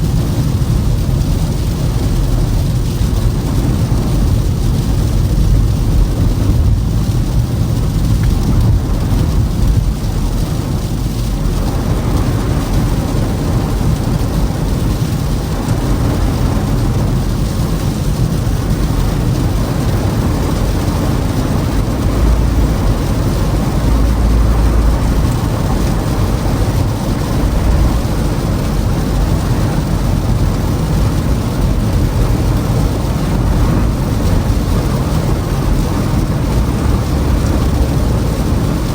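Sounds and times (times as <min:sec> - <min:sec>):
car cabin road noise: 0:00.0 - 0:38.9.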